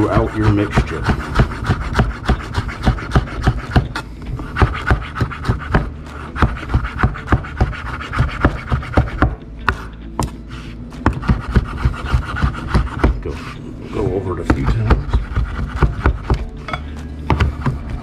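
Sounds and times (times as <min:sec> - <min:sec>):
knife chopping on wooden board: 0:00.0 - 0:10.4, 0:11.0 - 0:13.4, 0:14.4 - 0:18.0.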